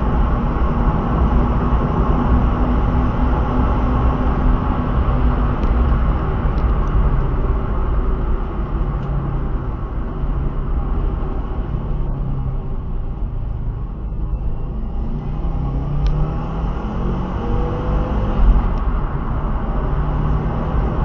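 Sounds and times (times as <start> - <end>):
car engine running under load: 0.0 - 21.0.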